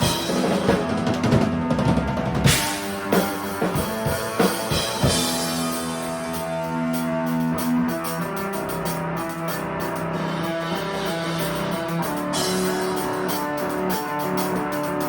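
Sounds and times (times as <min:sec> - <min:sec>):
drum kit hits: 0:00.0 - 0:15.0
guitar sustained notes: 0:00.0 - 0:15.0.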